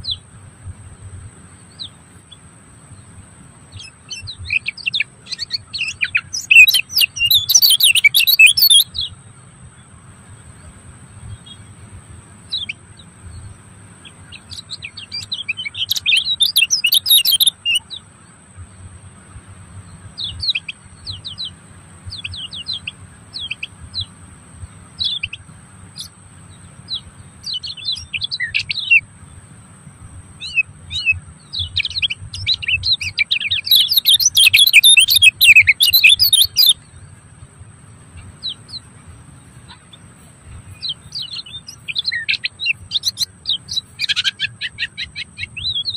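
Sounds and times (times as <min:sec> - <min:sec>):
birds chirping: 0:00.0 - 0:45.9
faint high-pitched whine: 0:00.0 - 0:45.9
low steady hum: 0:00.0 - 0:45.9.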